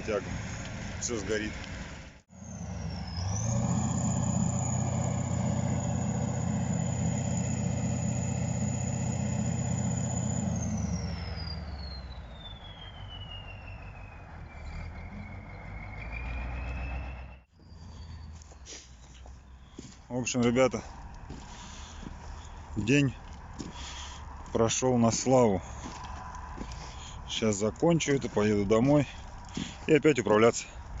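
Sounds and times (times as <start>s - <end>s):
heavy vehicle engine running: 0.0s - 29.9s.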